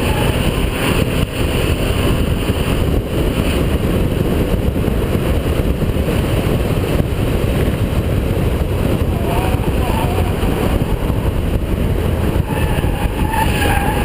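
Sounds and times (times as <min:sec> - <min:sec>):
car engine racing: 0:00.0 - 0:14.0
road noise: 0:00.0 - 0:14.0.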